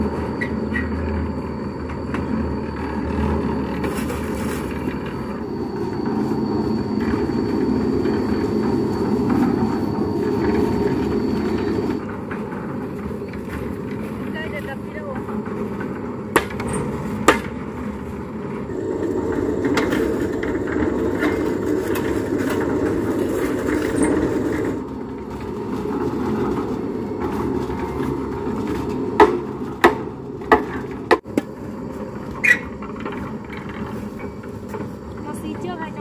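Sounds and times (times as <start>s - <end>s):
electric concrete mixer running: 0.0s - 16.3s, 17.2s - 36.0s.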